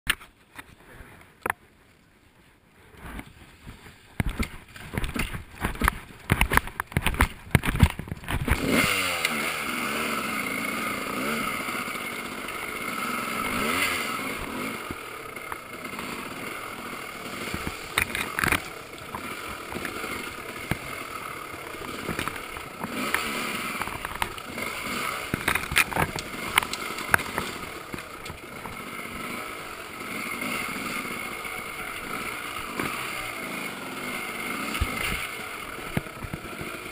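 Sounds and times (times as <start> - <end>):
dirt bike engine revving: 4.3 - 36.9.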